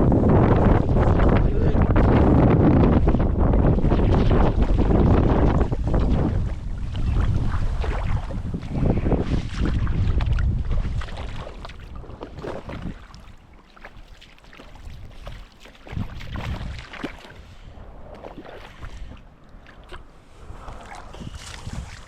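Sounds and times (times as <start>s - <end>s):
water splashing and sloshing: 0.0s - 22.0s
wind rumbling on microphone: 0.0s - 22.0s.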